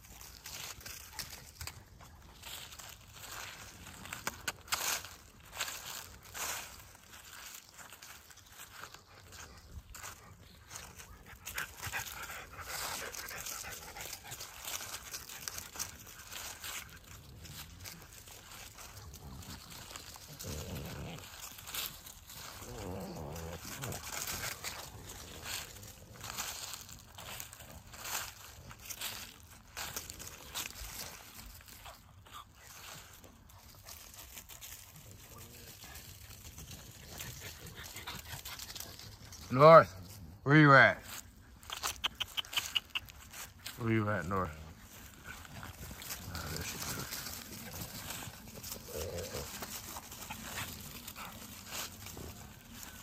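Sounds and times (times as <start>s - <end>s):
puppy sounds: 0.0s - 40.4s, 41.1s - 53.0s
rustling on dry leaves: 0.0s - 53.0s.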